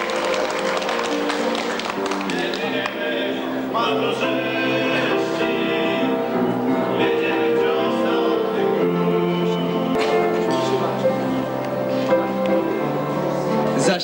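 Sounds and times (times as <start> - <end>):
slow held chords music: 0.0 - 13.9.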